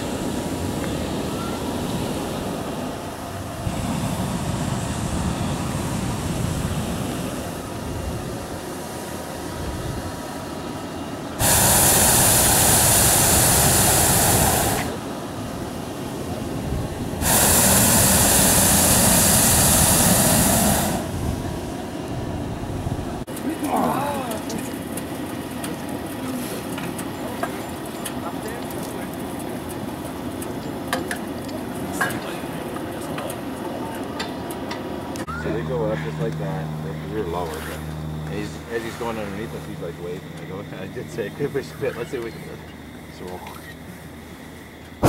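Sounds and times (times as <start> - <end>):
propane burner blasts: 0.0 - 45.0
steady background noise: 0.0 - 45.0.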